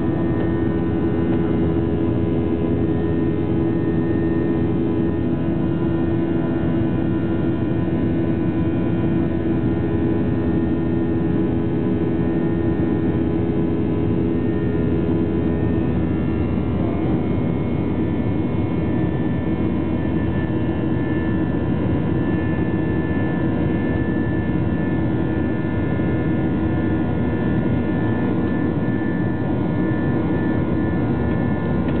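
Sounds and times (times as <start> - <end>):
jet engine cabin drone: 0.0 - 32.0.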